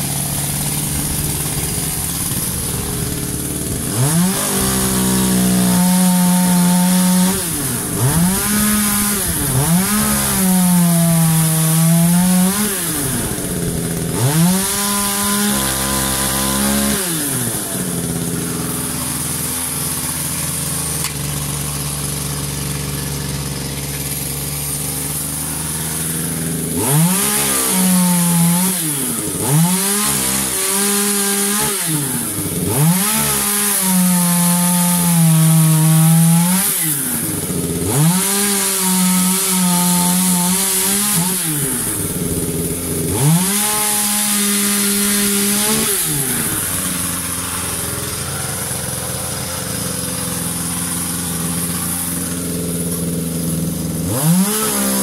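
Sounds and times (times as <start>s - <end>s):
chainsaw cutting wood: 0.0s - 55.0s
chainsaw idling and revving: 0.0s - 55.0s.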